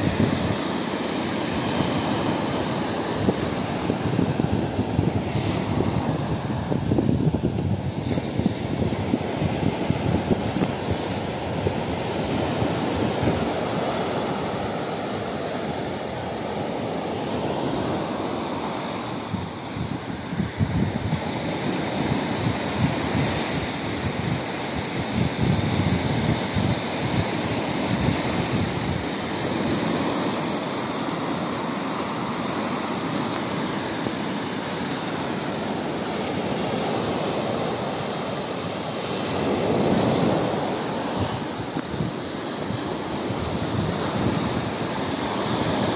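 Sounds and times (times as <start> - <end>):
wind buffeting microphone: 0.0 - 31.6, 33.0 - 45.9.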